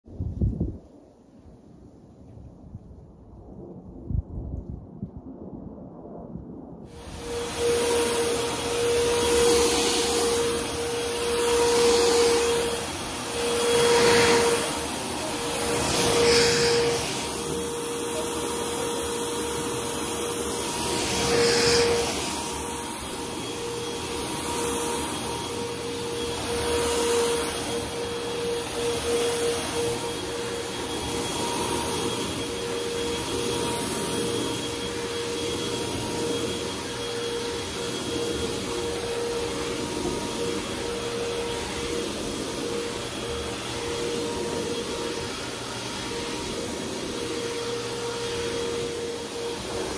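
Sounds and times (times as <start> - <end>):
vacuum cleaner running on carpet: 6.9 - 49.9.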